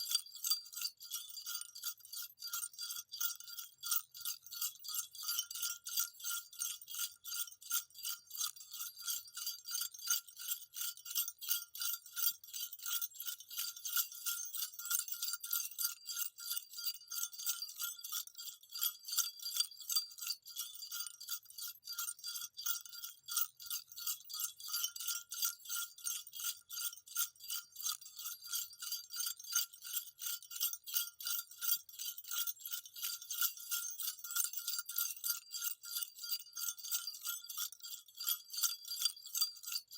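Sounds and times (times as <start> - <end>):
jingle bells shaken: 0.0 - 39.9.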